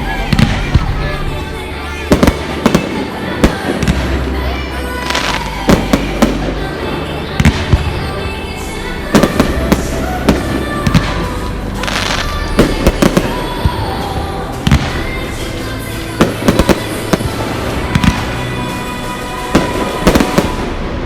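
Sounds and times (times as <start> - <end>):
fireworks banging: 0.0 - 21.0
fireworks crackling hiss: 0.0 - 21.0.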